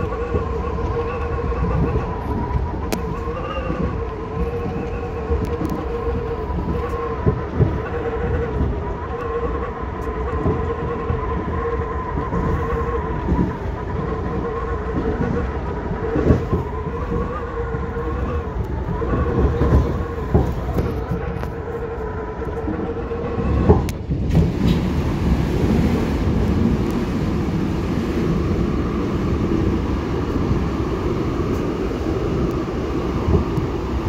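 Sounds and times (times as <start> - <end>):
wheels rumbling on track: 0.0 - 34.0
wind whistling through train car: 0.0 - 34.0.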